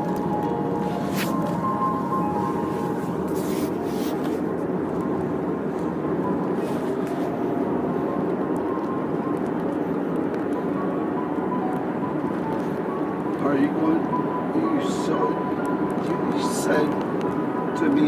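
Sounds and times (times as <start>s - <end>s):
car cabin road and engine noise: 0.0s - 18.0s
piano music from car radio: 0.0s - 18.0s.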